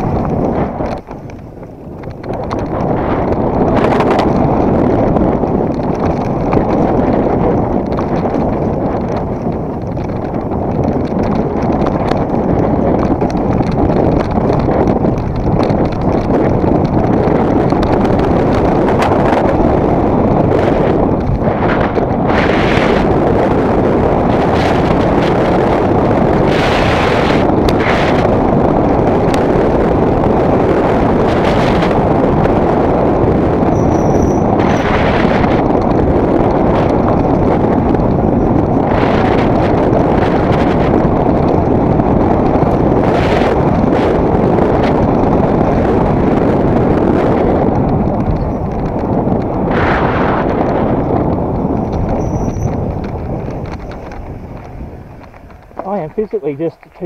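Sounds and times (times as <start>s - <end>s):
bike clattering over bumps: 0.0s - 57.0s
tyres rumbling on dirt: 0.0s - 57.0s
wind buffeting microphone: 0.0s - 57.0s.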